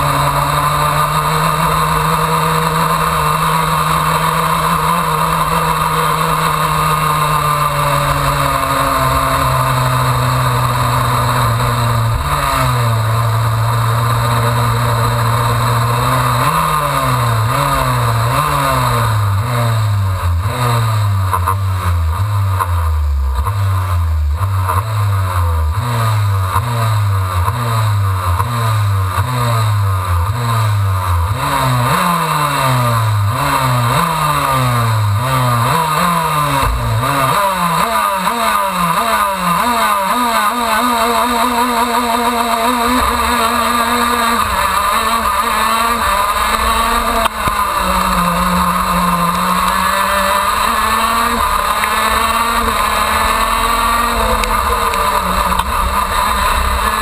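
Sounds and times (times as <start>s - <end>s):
kart engine accelerating hard: 0.0s - 57.0s
kart engines revving: 0.0s - 57.0s.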